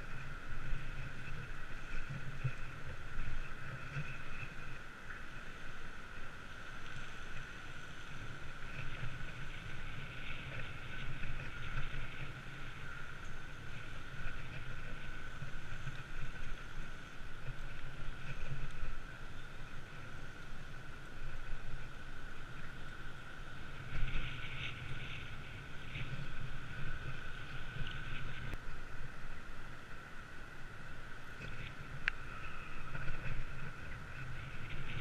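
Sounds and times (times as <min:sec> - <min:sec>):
wind and bicycle riding noise: 0:00.0 - 0:35.0.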